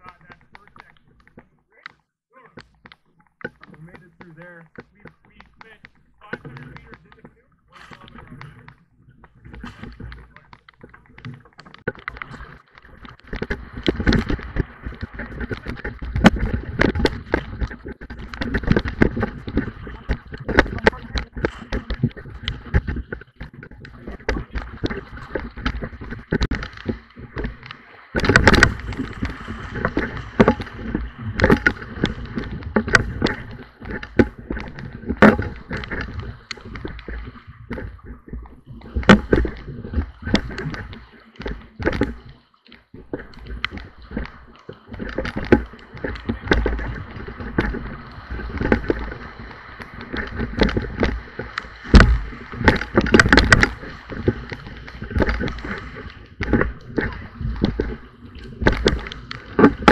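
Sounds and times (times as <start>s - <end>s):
paddle strokes knocking and splashing: 0.0s - 59.9s.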